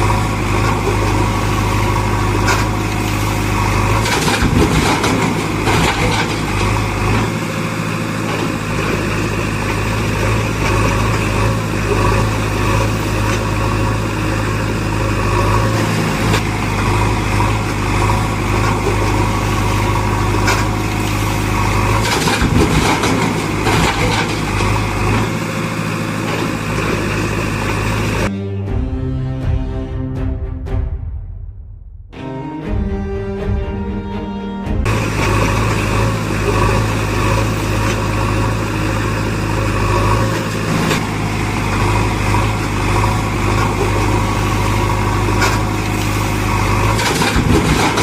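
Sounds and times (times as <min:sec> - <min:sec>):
vehicle engine running: 0:00.0 - 0:29.0, 0:34.8 - 0:48.0.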